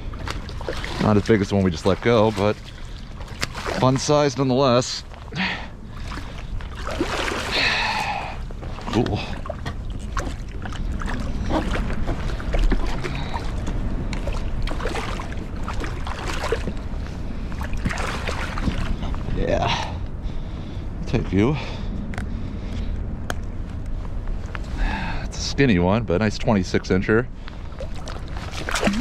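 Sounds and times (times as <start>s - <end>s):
low rumble: 0.0s - 29.0s
water splashing and sloshing: 0.0s - 29.0s.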